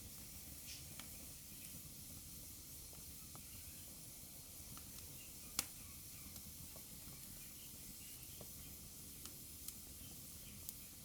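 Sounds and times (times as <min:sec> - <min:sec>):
fireplace fire crackling: 0:00.0 - 0:11.0.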